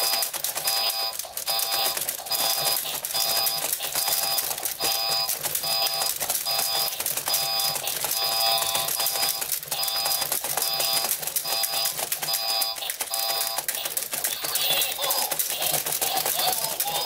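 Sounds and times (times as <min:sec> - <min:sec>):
electronic beeping pattern: 0:00.0 - 0:13.8
plastic clatter of toy robots: 0:00.0 - 0:17.0.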